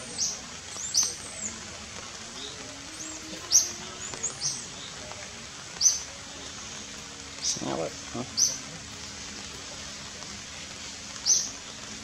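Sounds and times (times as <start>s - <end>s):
small birds chirping: 0.0s - 12.0s
steady background hiss: 0.0s - 12.0s.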